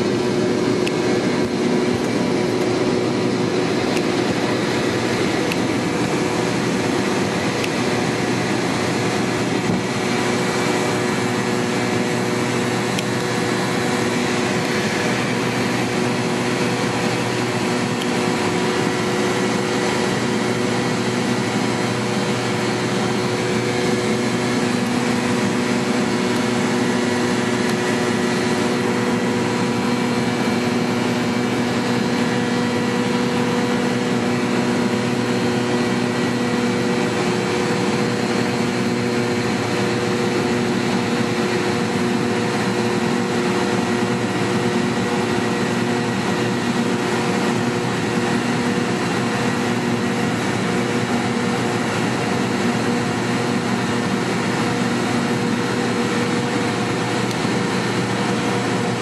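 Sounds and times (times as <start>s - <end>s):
jet engines at climb power: 0.0s - 59.0s
low hum: 0.0s - 59.0s
rush of airflow: 0.0s - 59.0s.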